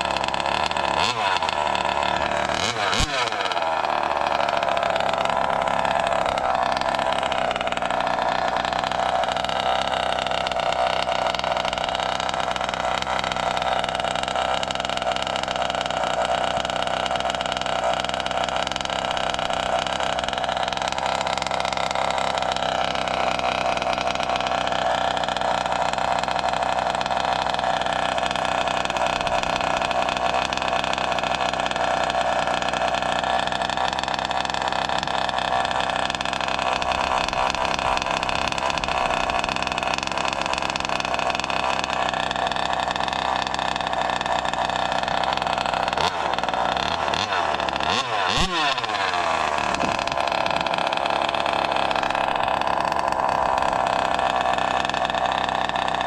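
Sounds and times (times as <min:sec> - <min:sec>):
two-stroke engine idling: 0:00.0 - 0:56.0.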